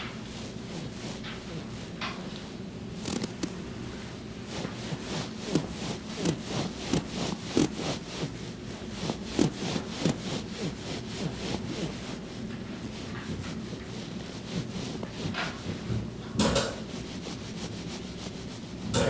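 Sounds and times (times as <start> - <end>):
hands rubbing skin and clothing: 0.0 - 3.6, 4.4 - 16.2, 16.8 - 18.9.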